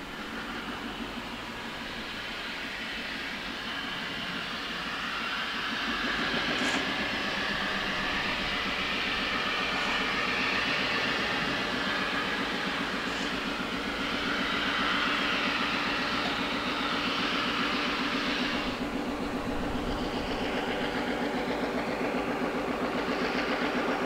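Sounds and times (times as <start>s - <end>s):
diesel locomotive engine: 0.0s - 24.0s.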